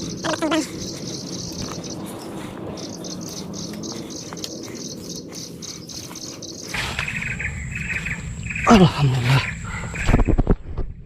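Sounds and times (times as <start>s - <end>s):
insect chirping: 0.0s - 10.5s.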